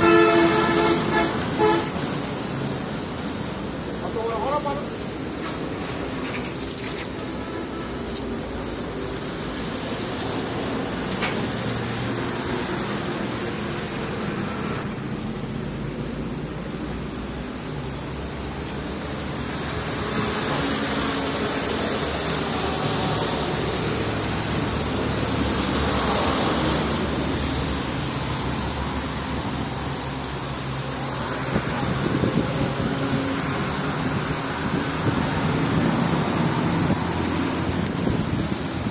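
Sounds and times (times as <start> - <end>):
noisy hiss: 0.0 - 38.9.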